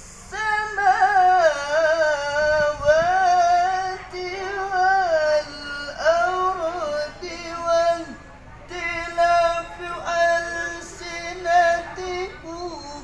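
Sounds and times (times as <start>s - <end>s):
man chanting melodically: 0.2s - 13.0s.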